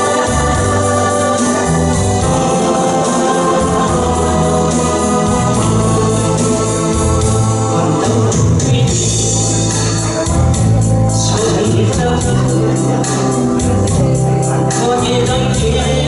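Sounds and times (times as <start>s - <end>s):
bass line: 0.0s - 16.0s
organ-like keyboard chords: 0.0s - 16.0s.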